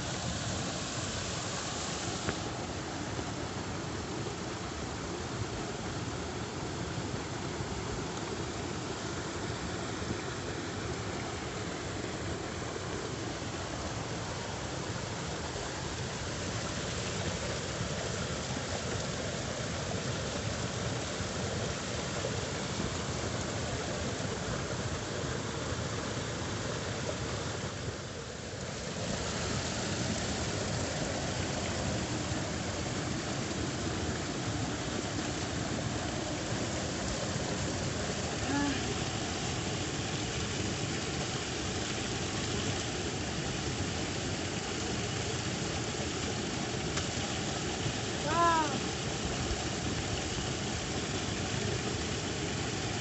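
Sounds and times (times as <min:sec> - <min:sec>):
water rushing through channel: 0:00.0 - 0:53.0.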